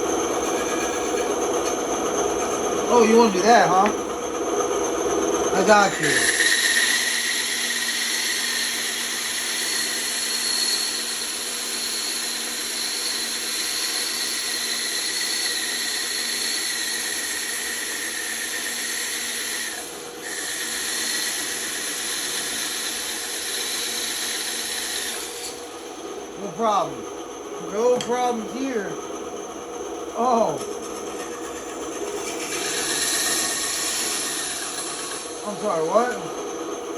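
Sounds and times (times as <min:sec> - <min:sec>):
band saw cutting wood: 0:00.0 - 0:36.8.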